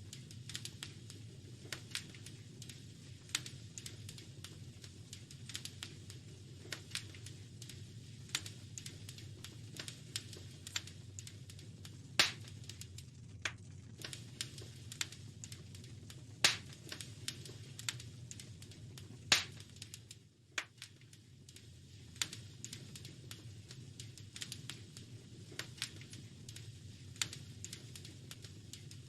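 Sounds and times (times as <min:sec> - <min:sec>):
low steady rumble: 0:00.0 - 0:29.0
wood fire crackling: 0:00.0 - 0:29.0.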